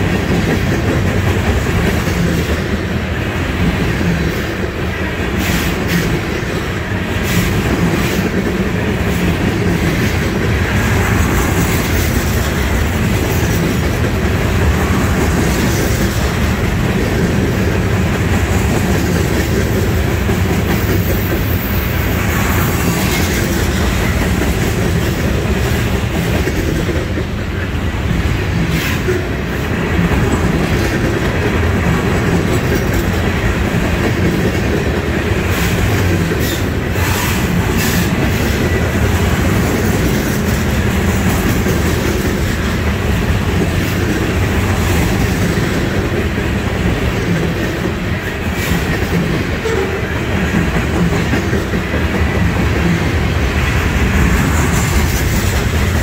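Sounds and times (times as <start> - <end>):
steel wheels rumbling on rail: 0.0 - 56.0
wheels clacking over rail joints: 0.0 - 56.0.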